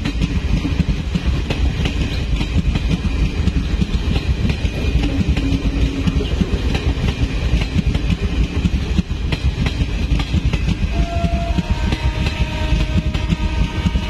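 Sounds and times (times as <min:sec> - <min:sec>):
wheels clicking over rail joints: 0:00.0 - 0:14.0
wheels rumbling on rails: 0:00.0 - 0:14.0.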